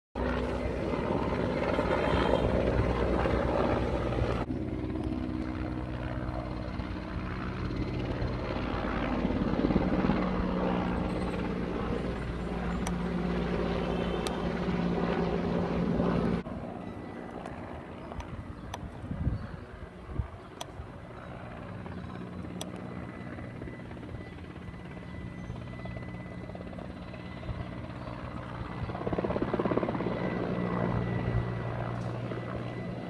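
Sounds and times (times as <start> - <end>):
helicopter rotor drone: 0.2 - 33.0.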